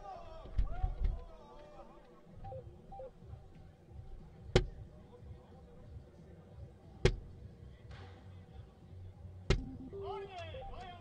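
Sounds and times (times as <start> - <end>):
low murmur of voices: 0.0 - 11.0.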